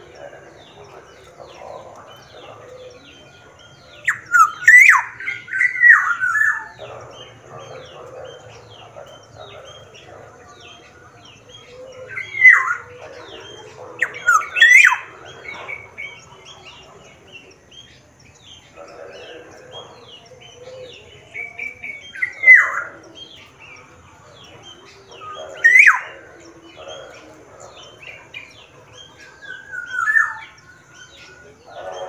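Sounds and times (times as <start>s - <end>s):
oriole whistling calls: 0.0s - 32.0s
small birds chirping: 0.0s - 32.0s.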